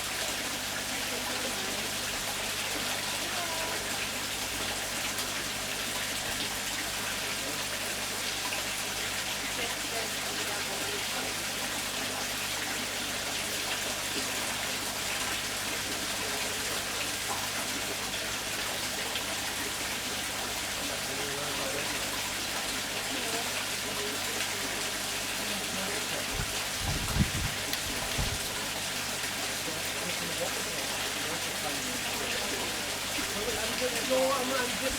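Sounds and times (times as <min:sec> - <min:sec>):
running water hiss: 0:00.0 - 0:34.9.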